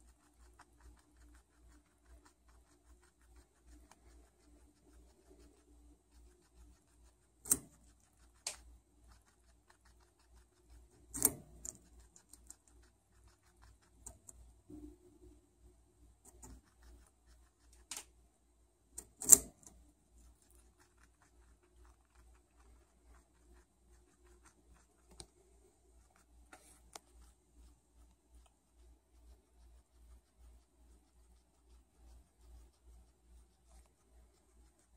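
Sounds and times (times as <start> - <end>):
guinea pig crunching carrot: 0.0 - 14.5, 16.2 - 18.1, 18.9 - 34.9
faint nibbling: 0.0 - 14.9, 16.2 - 18.2, 18.9 - 34.9.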